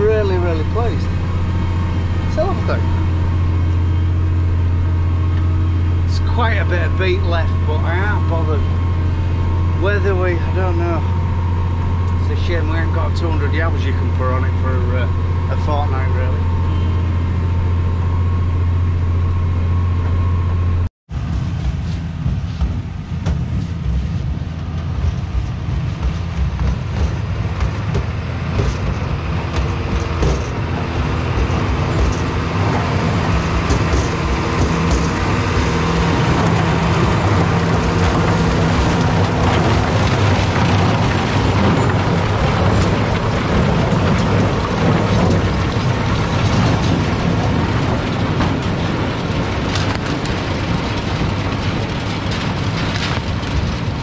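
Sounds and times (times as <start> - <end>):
harvester rattling with beets and soil: 0.0 - 54.0
tractor engine under load: 0.0 - 54.0.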